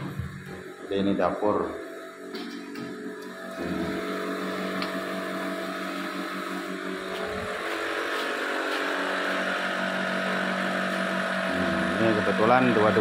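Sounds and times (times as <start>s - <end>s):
water pumps humming: 0.0s - 13.0s.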